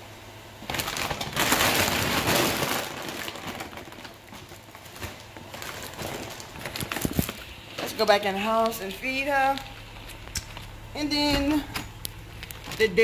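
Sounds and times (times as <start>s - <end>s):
plastic bag crinkling: 0.6s - 13.0s.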